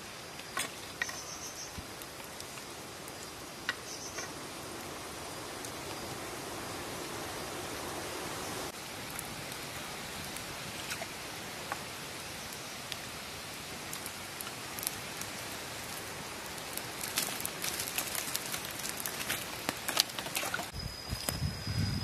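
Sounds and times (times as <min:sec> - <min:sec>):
wood fire crackling: 0:00.0 - 0:22.0
meat sizzling on a grill: 0:01.0 - 0:20.3.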